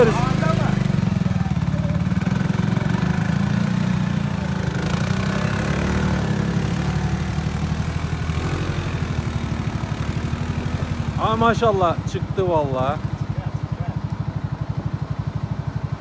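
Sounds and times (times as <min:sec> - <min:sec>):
atv engine under load: 0:00.0 - 0:16.0.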